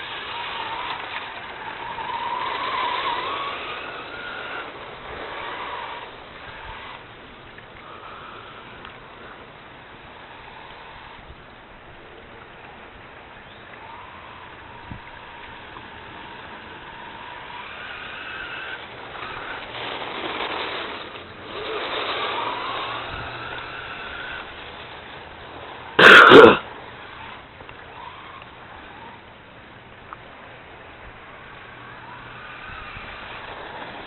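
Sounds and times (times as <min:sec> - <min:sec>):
rc car motor whining: 0:00.0 - 0:34.0.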